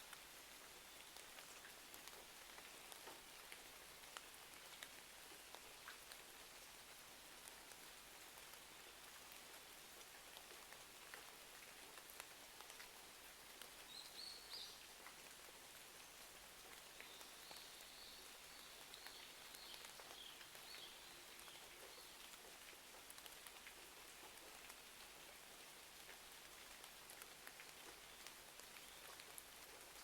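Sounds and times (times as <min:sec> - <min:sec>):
faint rain: 0:00.0 - 0:30.0
raindrops ticking: 0:00.1 - 0:06.7, 0:07.3 - 0:30.0.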